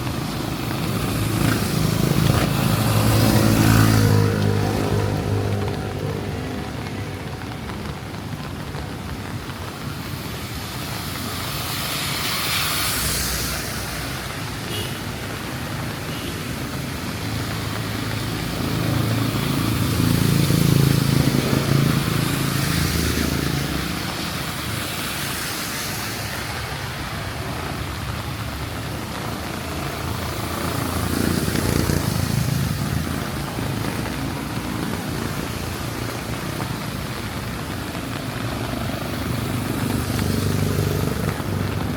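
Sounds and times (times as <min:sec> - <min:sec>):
rain: 0:00.0 - 0:41.9
tyres hissing on wet road: 0:00.0 - 0:41.9
vehicle engines humming: 0:00.0 - 0:41.9.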